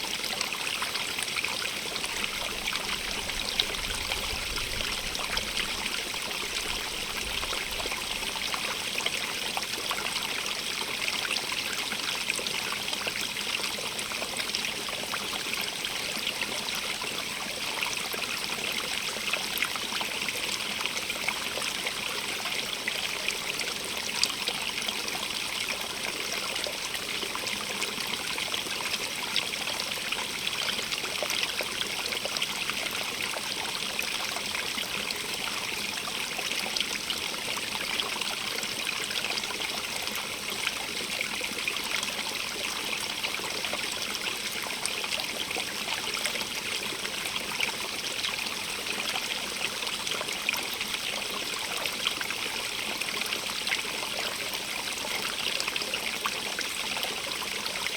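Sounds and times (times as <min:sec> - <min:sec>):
stream trickling over stones: 0:00.0 - 0:57.9.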